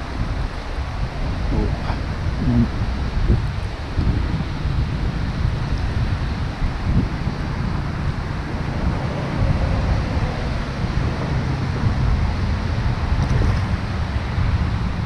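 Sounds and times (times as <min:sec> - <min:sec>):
rushing hiss of wind: 0:00.0 - 0:15.0
wind buffeting microphone: 0:00.0 - 0:15.0.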